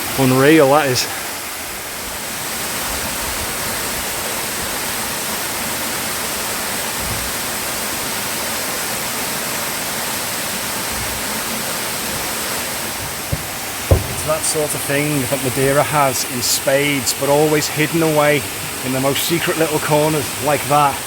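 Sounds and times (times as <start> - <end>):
waterfall rushing: 3.9 - 21.0.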